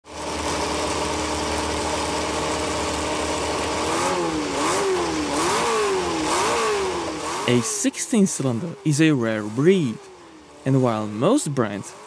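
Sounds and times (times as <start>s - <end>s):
racing engine idling and blipping: 0.0s - 12.0s.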